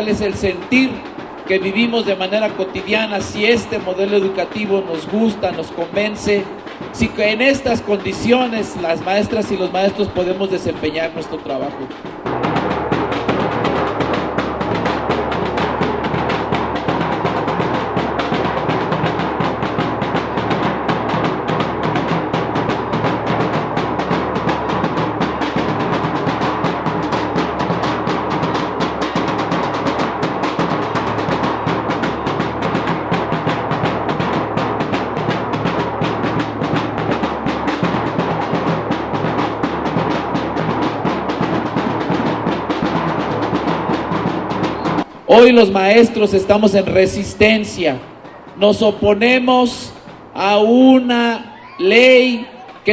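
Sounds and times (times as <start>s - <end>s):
drums beating fast rhythm: 0.0s - 52.9s.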